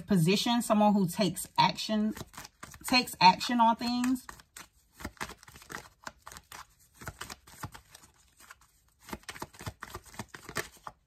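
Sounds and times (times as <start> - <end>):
cards being shuffled: 1.4 - 11.0.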